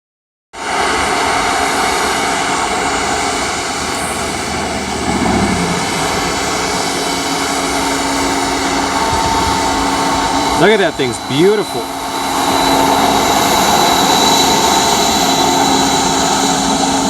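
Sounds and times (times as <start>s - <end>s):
high engine whine: 0.6s - 17.0s
jet engines running: 0.6s - 17.0s.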